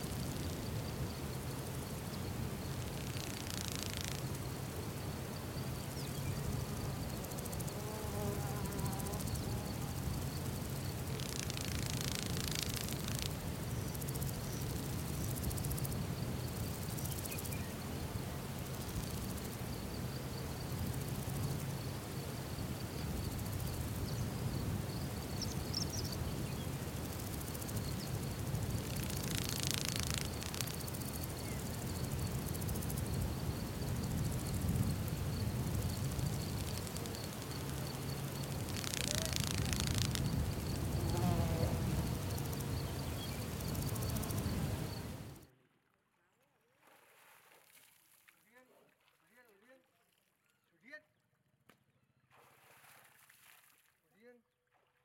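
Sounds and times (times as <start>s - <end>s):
high-pitched insect trill: 0.0s - 45.4s
flies buzzing past: 0.0s - 45.5s.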